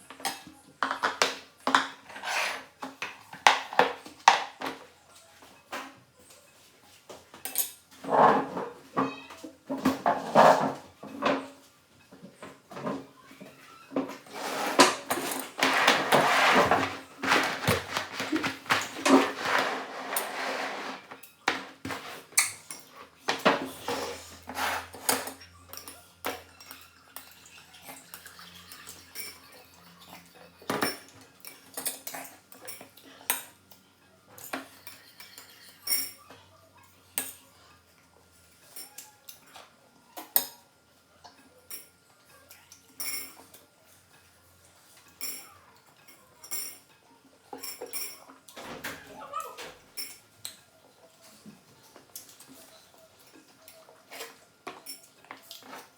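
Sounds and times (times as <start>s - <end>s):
cutlery clinking against dishes: 0.0s - 5.0s, 7.1s - 51.3s, 51.9s - 55.9s.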